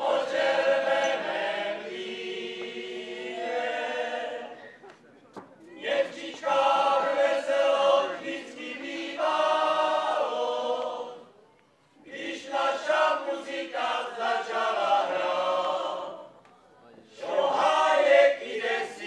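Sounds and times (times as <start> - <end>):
group singing a folk song: 0.0 - 4.8, 5.7 - 16.4, 17.1 - 19.0.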